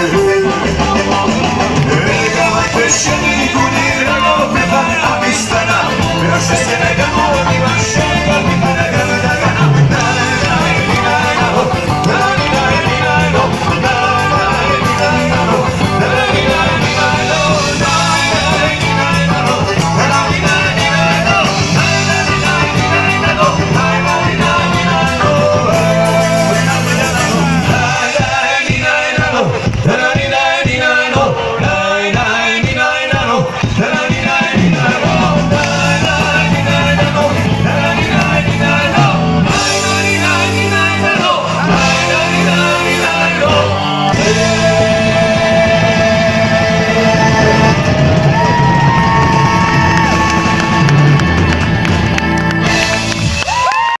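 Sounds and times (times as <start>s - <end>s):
person singing: 0.0s - 51.8s
drums: 0.0s - 54.0s
electric guitars: 0.0s - 54.0s
live rock band playing: 0.0s - 54.0s.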